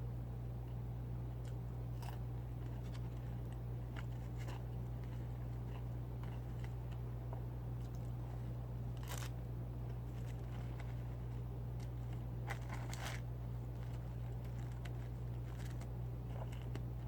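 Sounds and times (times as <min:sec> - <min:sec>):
steady low hum: 0:00.0 - 0:17.0
chewing and handling food: 0:00.7 - 0:17.0.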